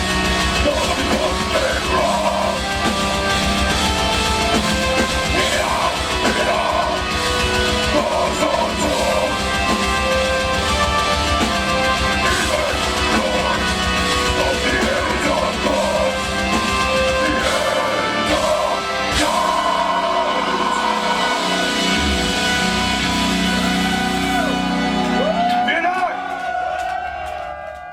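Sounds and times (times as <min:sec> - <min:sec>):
metal band playing live: 0:00.0 - 0:27.3.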